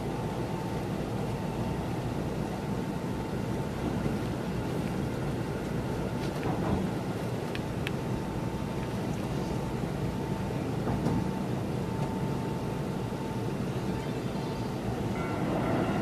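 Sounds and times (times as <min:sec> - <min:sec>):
faint steady whine: 0:00.0 - 0:16.0
train running rumble: 0:00.0 - 0:16.0.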